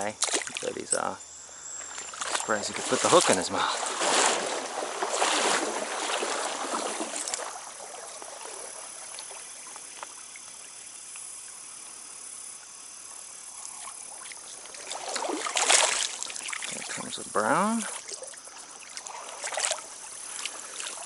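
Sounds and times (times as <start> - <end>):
water splashing and sloshing: 0.0 - 1.0, 1.8 - 21.0
stream running over riffles: 0.0 - 21.0.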